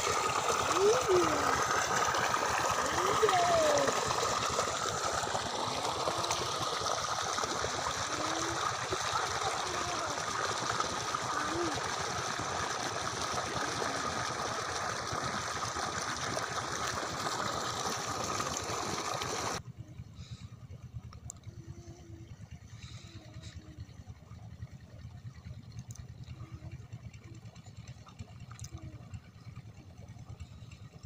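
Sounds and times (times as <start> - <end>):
water rushing along channel: 0.0 - 19.6, 21.2 - 31.0.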